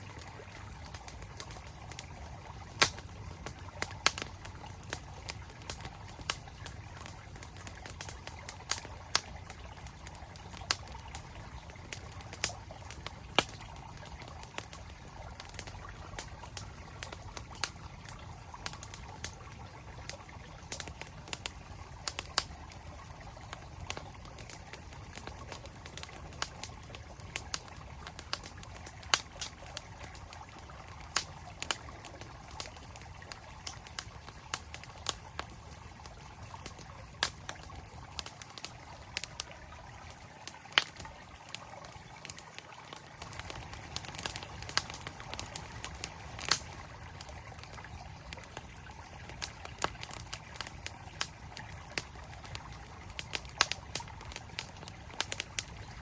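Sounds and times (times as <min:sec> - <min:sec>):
campfire crackling and popping: 0:00.0 - 0:56.0
stream flowing: 0:00.0 - 0:56.0.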